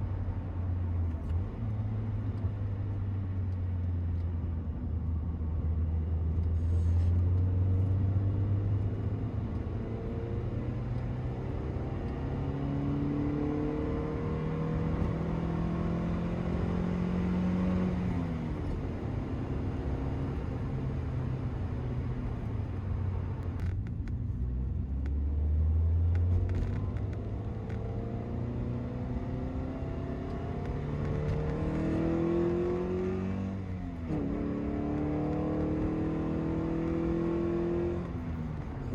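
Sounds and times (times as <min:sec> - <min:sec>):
car engine accelerating: 0:06.0 - 0:38.9.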